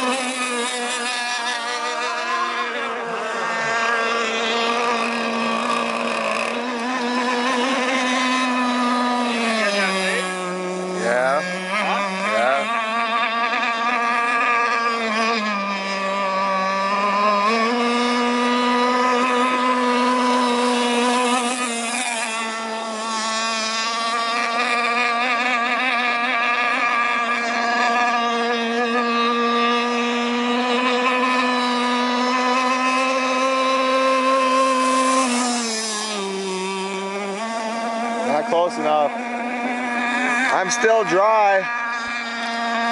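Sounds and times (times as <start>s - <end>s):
model boat motor buzzing: 0.0s - 42.9s.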